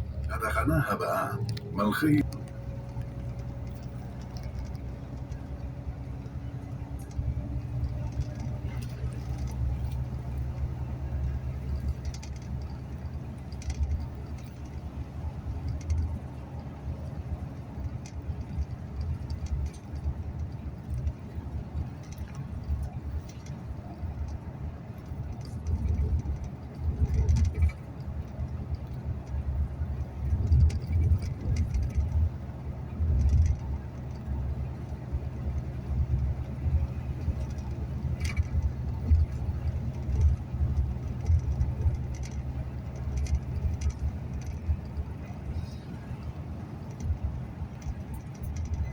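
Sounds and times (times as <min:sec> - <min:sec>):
bus engine and road rumble: 0:00.0 - 0:48.9
light rattles and clicks: 0:01.4 - 0:48.9.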